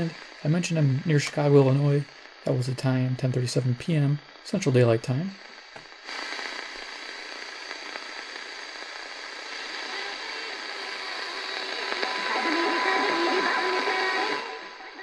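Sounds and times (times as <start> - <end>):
radio static hissing: 0.0 - 15.0
steady tone: 0.0 - 15.0
weak distant radio station: 0.0 - 15.0.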